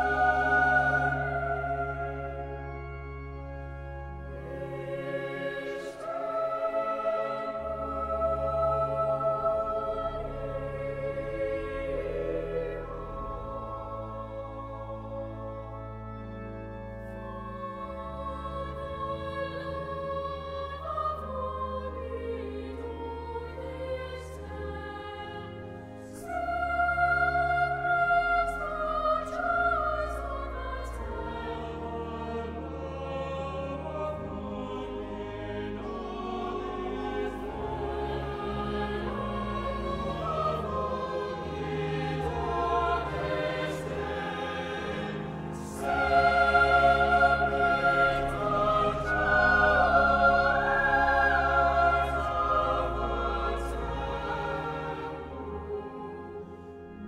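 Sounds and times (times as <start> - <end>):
choir singing: 0.0 - 57.0
organ accompaniment: 0.0 - 57.0.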